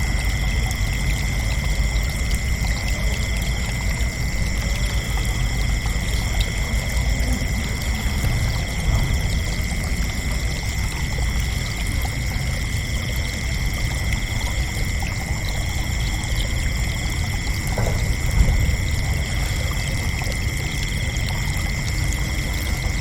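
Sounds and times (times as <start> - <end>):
crickets trilling: 0.0 - 23.0
steady low rumble: 0.0 - 23.0.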